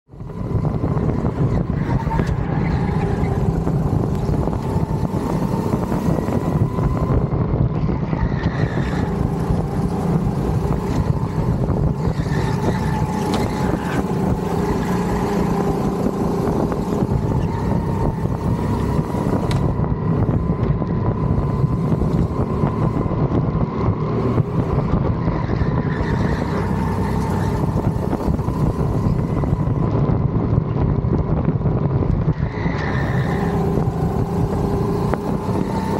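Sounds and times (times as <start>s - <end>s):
go-kart engine running hard: 0.1s - 35.9s.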